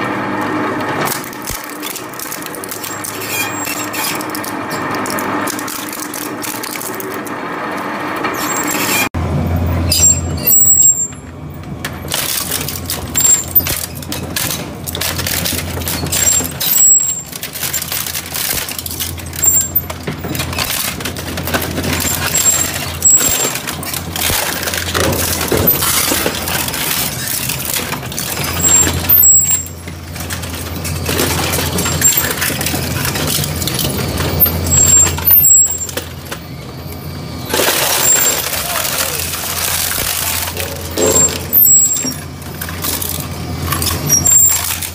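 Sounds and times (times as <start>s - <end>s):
cutter rollers crunching plastic: 0.0s - 9.2s, 9.9s - 44.9s
shredder motor hum: 0.0s - 10.6s, 11.2s - 44.9s.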